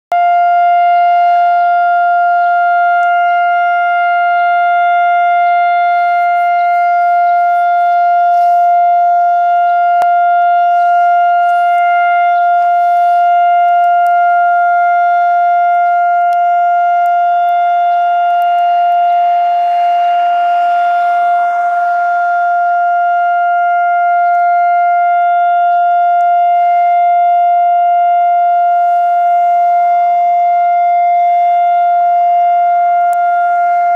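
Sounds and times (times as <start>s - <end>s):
siren steady tone: 0.0s - 33.9s.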